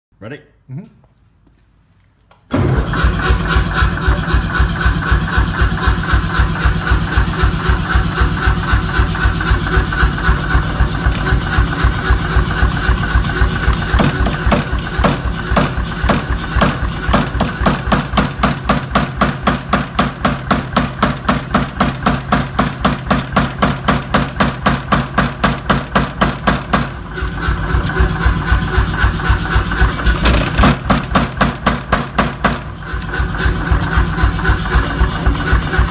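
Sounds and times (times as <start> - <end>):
power hammer blows: 2.5 - 35.9.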